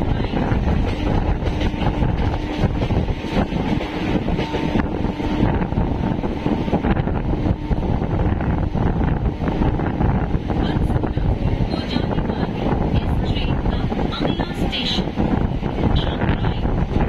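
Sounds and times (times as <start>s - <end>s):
train wheels rumbling on track: 0.0s - 17.0s
wind on microphone: 0.0s - 17.0s.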